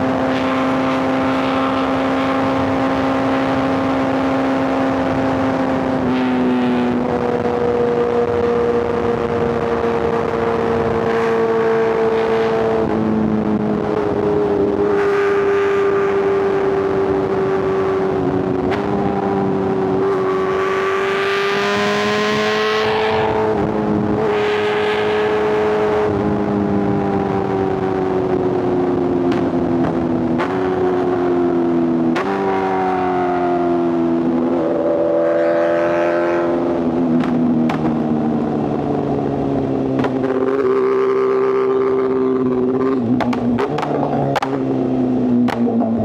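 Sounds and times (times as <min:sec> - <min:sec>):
motorcycle engines running: 0:00.0 - 0:46.0.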